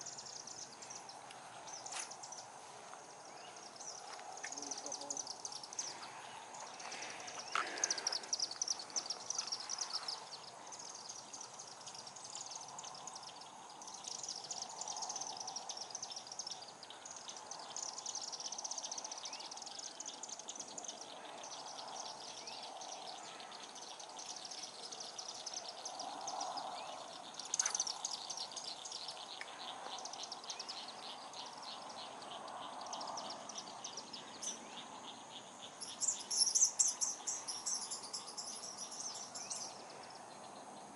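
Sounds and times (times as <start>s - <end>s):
birds and insects chirping trills: 0.0s - 40.9s.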